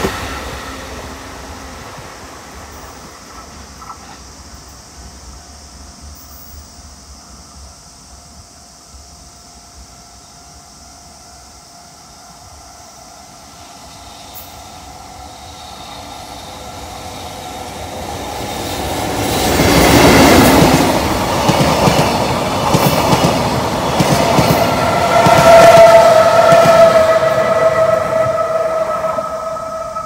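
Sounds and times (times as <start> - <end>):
electric locomotive rumble: 0.0 - 30.0.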